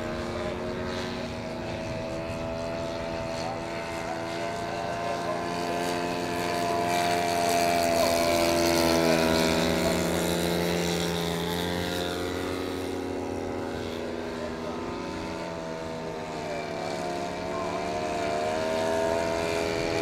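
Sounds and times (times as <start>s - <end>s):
model plane engines droning: 0.0s - 20.0s
plane passing low: 0.0s - 20.0s.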